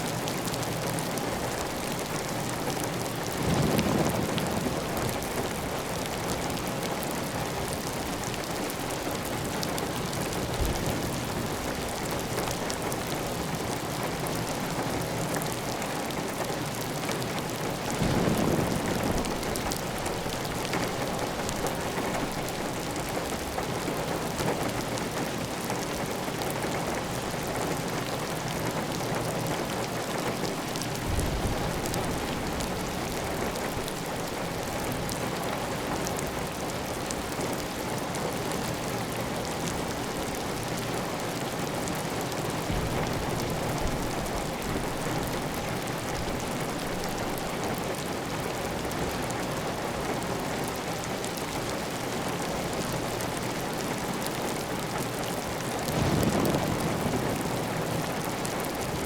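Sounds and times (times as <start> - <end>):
heavy rain on a tile roof: 0.0 - 59.0.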